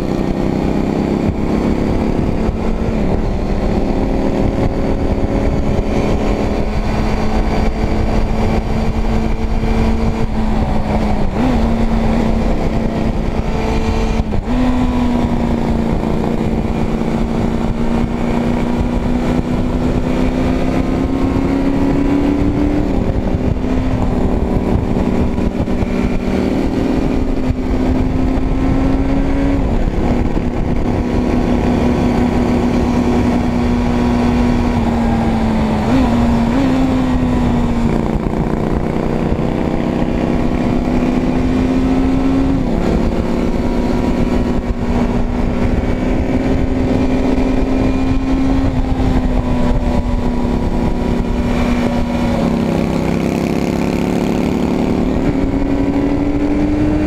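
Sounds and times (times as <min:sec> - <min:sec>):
motorcycle engine running: 0:00.0 - 0:57.0
wind on microphone: 0:00.0 - 0:57.0.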